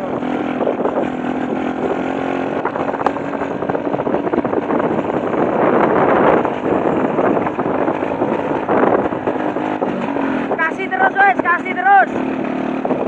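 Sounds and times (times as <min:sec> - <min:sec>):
rushing road noise: 0:00.0 - 0:13.0
truck engine hum: 0:00.0 - 0:13.0.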